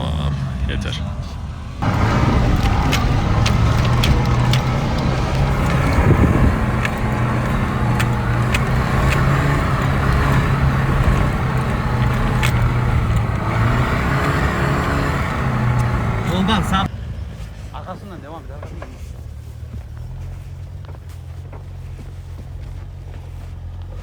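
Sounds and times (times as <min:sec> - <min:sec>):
pickup engine running in snow: 0:01.8 - 0:24.0.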